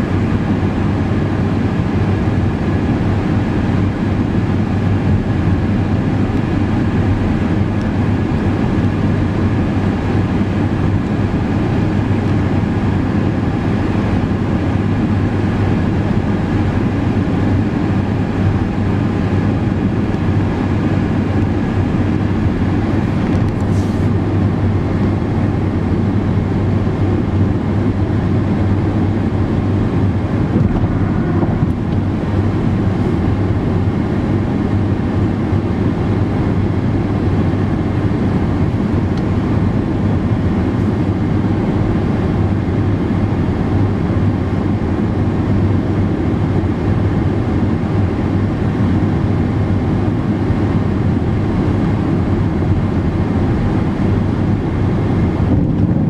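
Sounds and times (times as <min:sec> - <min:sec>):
air rush and road hiss: 0:00.0 - 0:56.0
car engine and tyre drone: 0:00.0 - 0:56.0.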